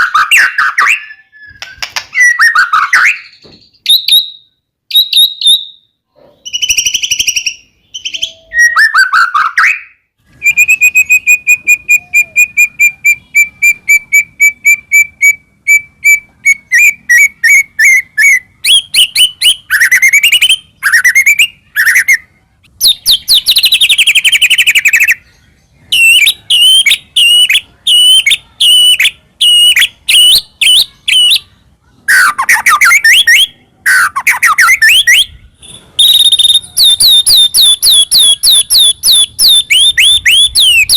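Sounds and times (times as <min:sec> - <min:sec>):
bird singing whistled notes: 0:00.0 - 0:31.5, 0:32.1 - 0:40.9.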